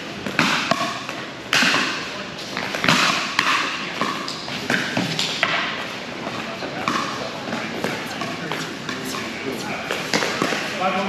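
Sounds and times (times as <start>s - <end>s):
ball bouncing on court: 0.2s - 10.8s.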